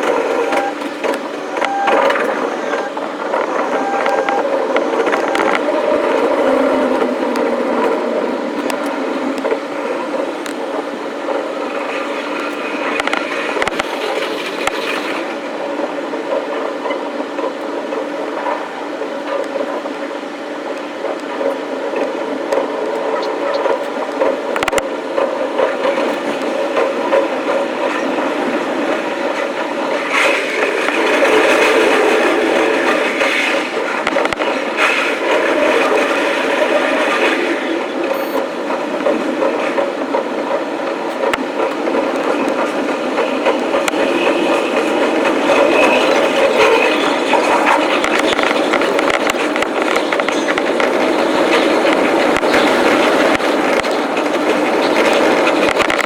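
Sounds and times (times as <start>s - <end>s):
electric train whirring: 0.0s - 56.0s.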